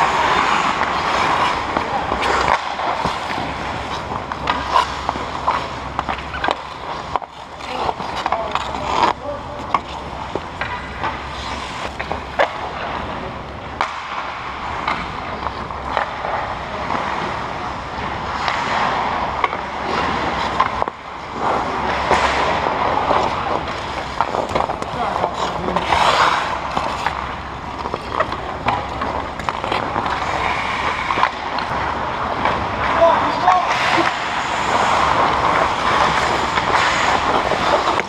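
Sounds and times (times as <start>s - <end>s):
hockey sticks and puck clacking: 0.0s - 38.0s
skates scraping on ice: 0.0s - 38.0s.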